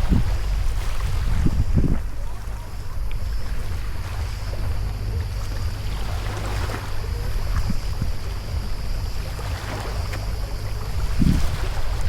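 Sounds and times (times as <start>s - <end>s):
sea water splashing and lapping: 0.0s - 12.0s
wind buffeting microphone: 0.0s - 12.0s.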